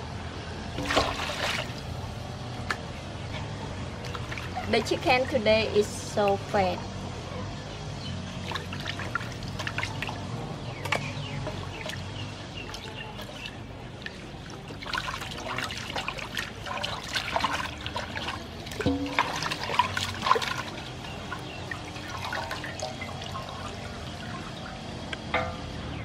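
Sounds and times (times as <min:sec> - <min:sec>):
water sloshing in metal basin: 0:00.7 - 0:02.2, 0:03.2 - 0:06.6, 0:08.3 - 0:25.8.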